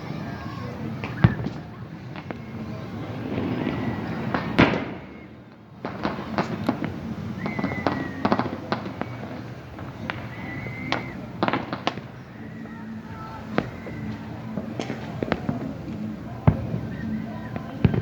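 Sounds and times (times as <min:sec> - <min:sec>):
thin high firework whistle: 0:00.2 - 0:18.0
firework pops and crackles: 0:00.9 - 0:18.0
firework bang: 0:01.0 - 0:12.8, 0:13.5 - 0:18.0.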